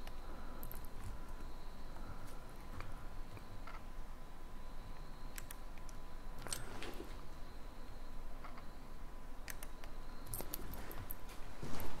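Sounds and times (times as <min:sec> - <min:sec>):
faint low rumble and hiss: 0:00.0 - 0:12.0.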